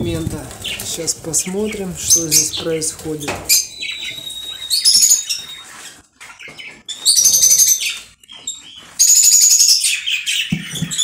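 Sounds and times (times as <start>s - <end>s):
budgerigars chirping: 0.1s - 11.0s.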